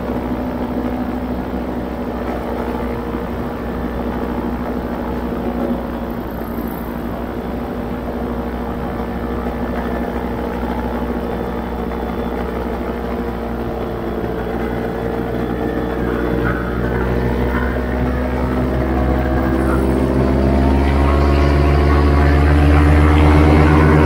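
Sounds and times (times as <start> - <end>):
paramotor engine droning: 0.0 - 24.0.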